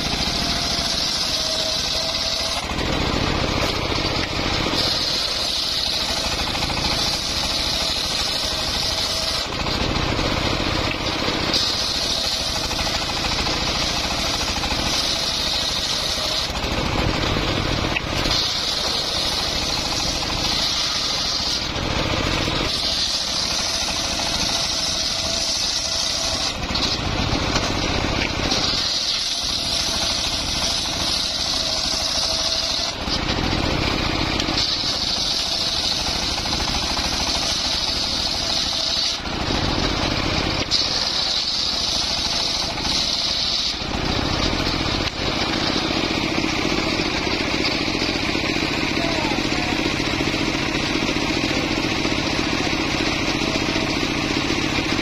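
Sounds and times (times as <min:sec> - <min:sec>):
engine running: 0:00.0 - 0:55.0
saw blade cutting wood: 0:00.0 - 0:55.0.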